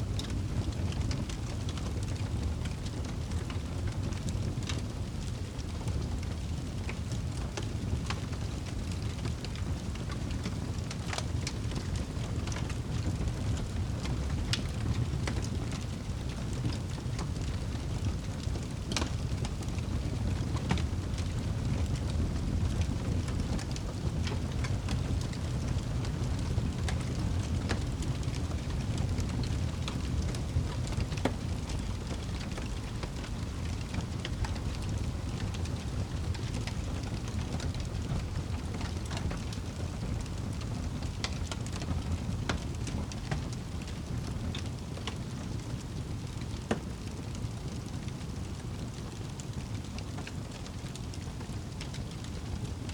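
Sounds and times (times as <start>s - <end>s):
fire pops and crackles: 0.0s - 52.9s
low rumble of flame: 0.0s - 52.9s.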